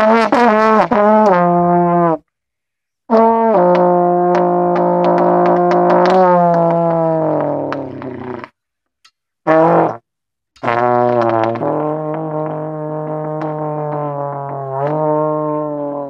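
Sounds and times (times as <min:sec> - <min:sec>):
trombone blasts and held note: 0:00.0 - 0:02.2, 0:03.1 - 0:08.5, 0:09.5 - 0:10.0, 0:10.6 - 0:16.0.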